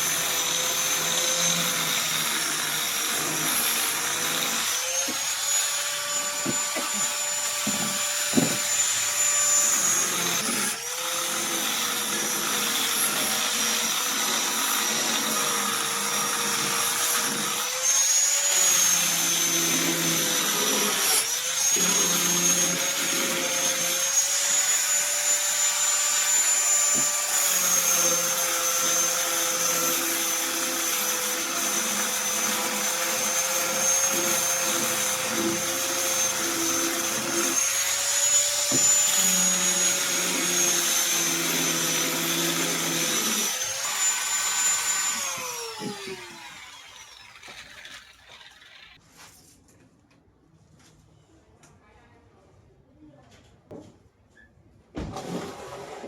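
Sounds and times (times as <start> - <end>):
electric power tool whining: 0.0 - 49.0.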